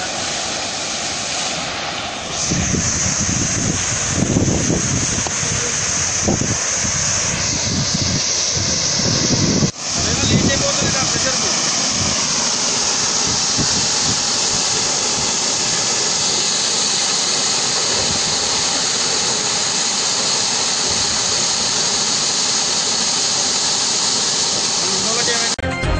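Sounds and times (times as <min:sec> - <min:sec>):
high-pressure water spray hissing: 0:00.0 - 0:25.6.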